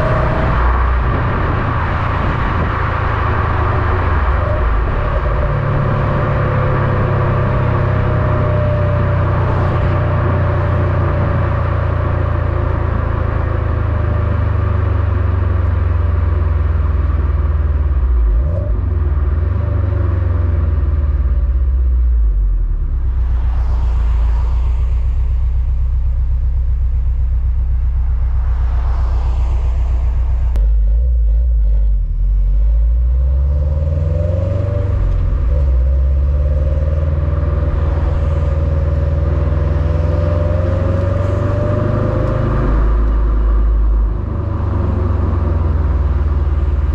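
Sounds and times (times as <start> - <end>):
car exhaust rumbling: 0.0 - 46.9
road and wind hiss: 0.0 - 46.9.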